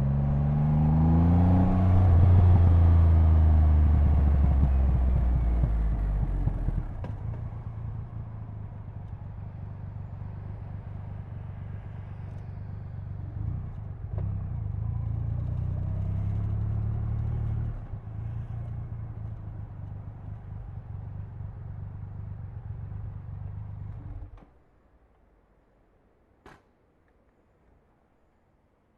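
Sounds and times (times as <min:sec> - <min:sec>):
motorcycle engine rumbling: 0:00.0 - 0:24.4.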